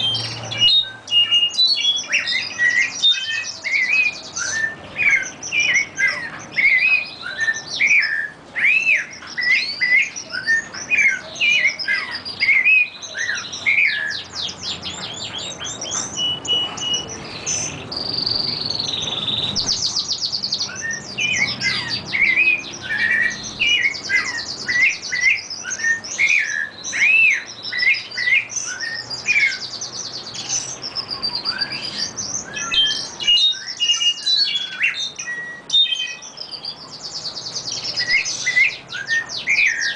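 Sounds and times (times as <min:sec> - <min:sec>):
long rapid bird trill: 0:00.0 - 0:39.9
songbirds singing: 0:00.0 - 0:39.9.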